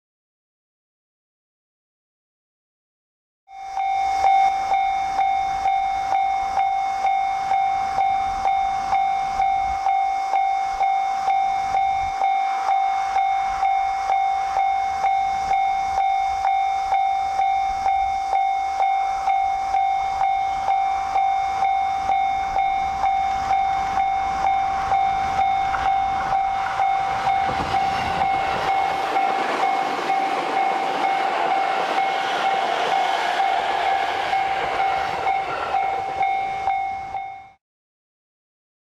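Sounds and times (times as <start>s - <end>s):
level crossing bell ringing: 3.5s - 37.6s
electric train passing: 3.6s - 37.6s.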